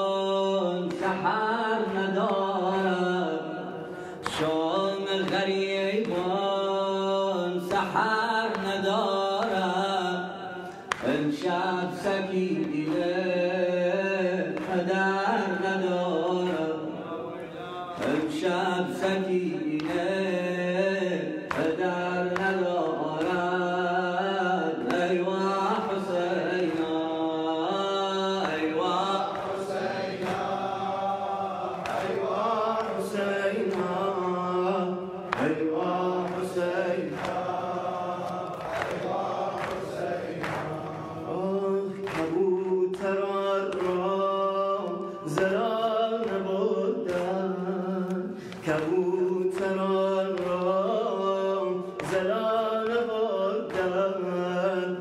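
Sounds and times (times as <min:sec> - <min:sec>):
men chanting mournful melody: 0:00.0 - 0:55.0.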